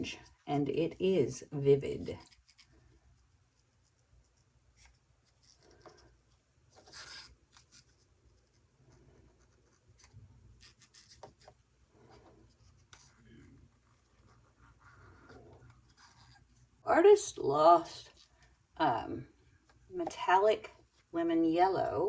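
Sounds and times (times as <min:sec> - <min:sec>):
scratching and rubbing handling noises: 0:00.0 - 0:21.2.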